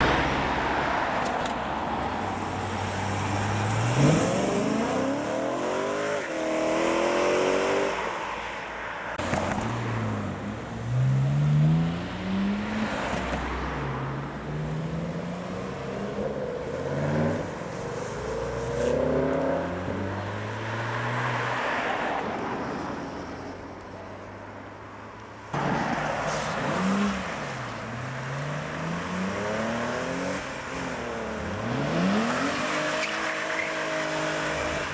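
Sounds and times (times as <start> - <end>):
car engines revving and accelerating: 0.0 - 34.9.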